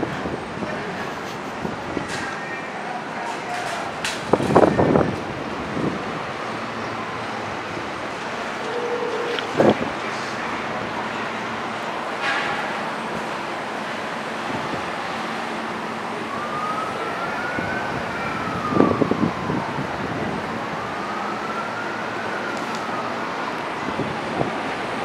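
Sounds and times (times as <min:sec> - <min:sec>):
emergency siren wailing: 0:00.0 - 0:12.2, 0:12.8 - 0:25.0
train and traffic noise: 0:00.0 - 0:25.0.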